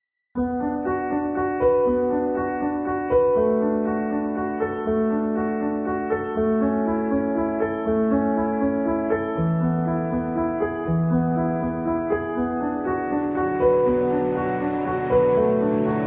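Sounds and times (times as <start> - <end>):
gentle piano music: 0.4 - 16.0.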